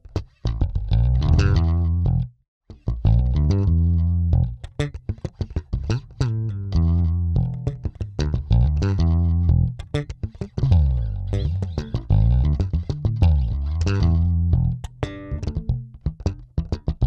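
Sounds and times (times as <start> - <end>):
electric bass line: 0.4 - 17.0
muted percussive bass notes: 0.5 - 5.0, 5.6 - 17.0.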